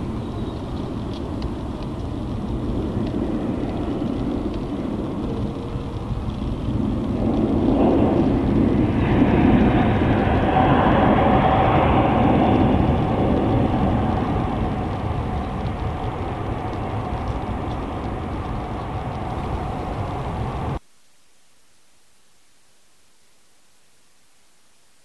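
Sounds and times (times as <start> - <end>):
jet engines roaring: 0.0 - 20.8.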